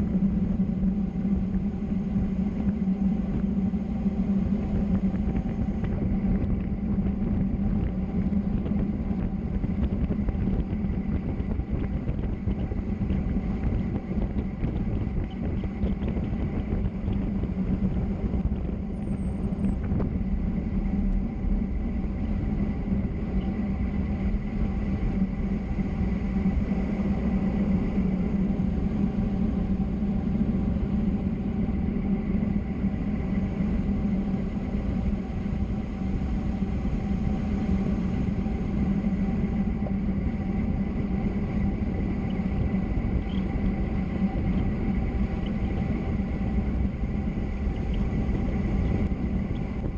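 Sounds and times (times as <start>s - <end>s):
low steady hum: 0.0s - 49.9s
road rumble: 0.0s - 49.9s.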